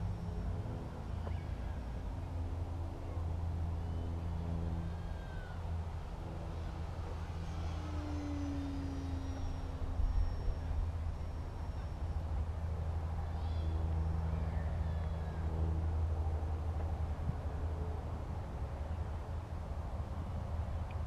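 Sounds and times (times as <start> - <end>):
model plane electric motor drone: 0.0 - 21.0.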